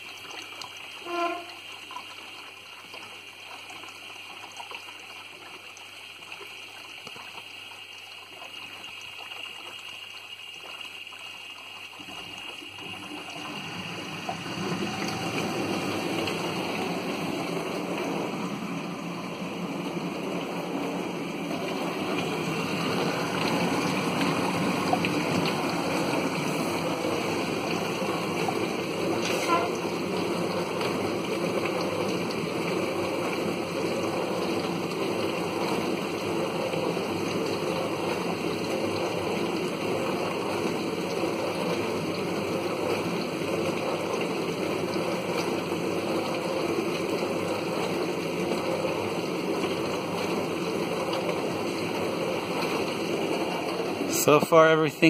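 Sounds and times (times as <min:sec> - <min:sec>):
dishwasher filling with water: 0:00.0 - 0:55.0.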